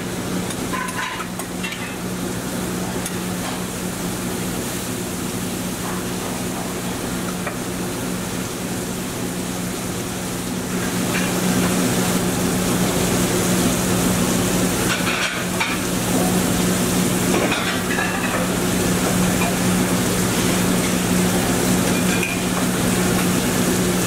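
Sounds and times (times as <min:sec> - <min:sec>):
food sizzling on griddle: 0:00.0 - 0:24.0.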